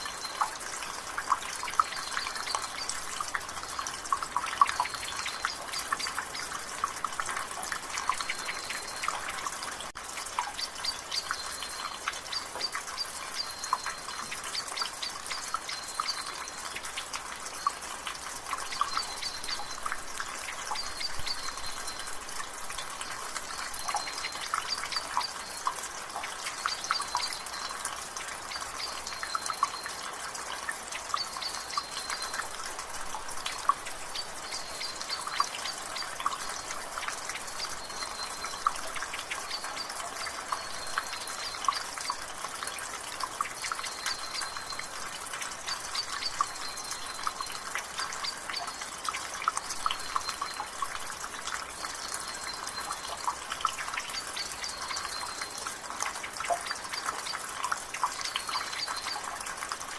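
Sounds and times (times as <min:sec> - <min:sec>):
rain pattering: 0:00.0 - 0:59.9
water dripping from gutter: 0:00.0 - 0:59.9.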